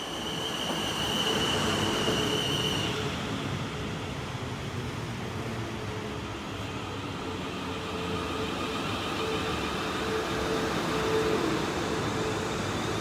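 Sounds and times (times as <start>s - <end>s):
train running with whining drone: 0.0s - 13.0s.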